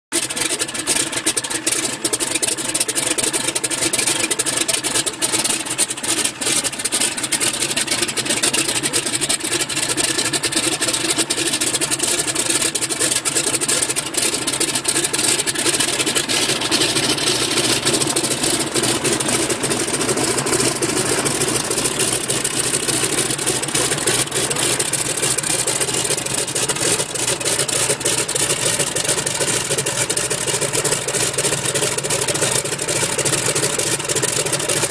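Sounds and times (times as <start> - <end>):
biplane radial engine running: 0.2 - 34.9.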